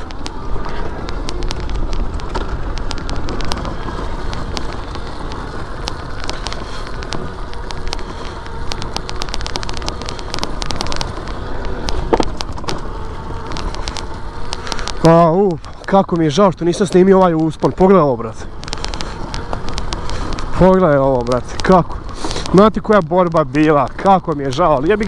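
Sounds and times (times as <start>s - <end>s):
motorcycle engine: 0.0s - 25.0s
stones clicking and crackling: 0.0s - 25.0s
wind rumble: 0.0s - 25.0s.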